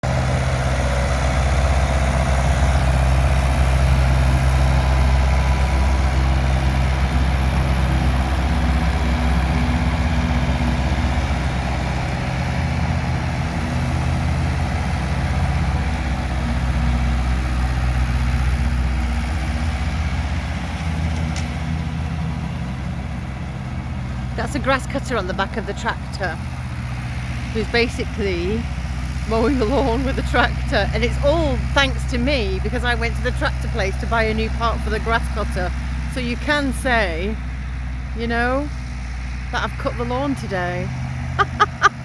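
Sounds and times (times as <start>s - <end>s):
tractor engine running: 0.0s - 42.0s.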